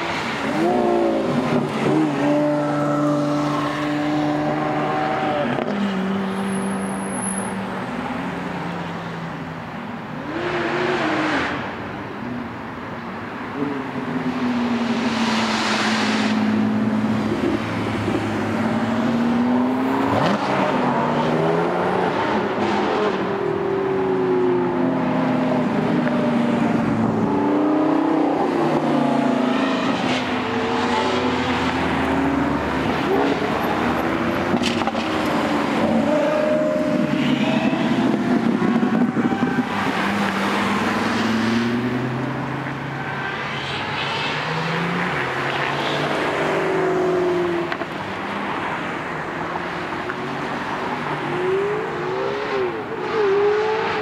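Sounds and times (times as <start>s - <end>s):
car engines accelerating: 0.0s - 54.0s.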